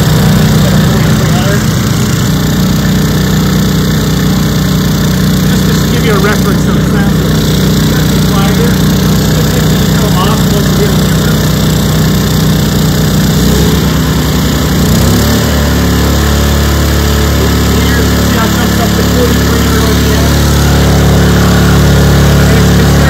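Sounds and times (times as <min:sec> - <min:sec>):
generators engine hum: 0:00.0 - 0:23.0.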